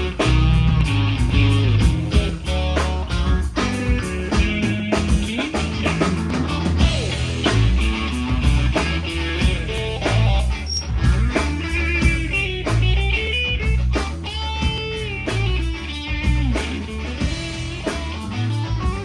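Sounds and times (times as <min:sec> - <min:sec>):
electric guitar lead: 0:00.0 - 0:19.0
rock band playing: 0:00.0 - 0:19.0.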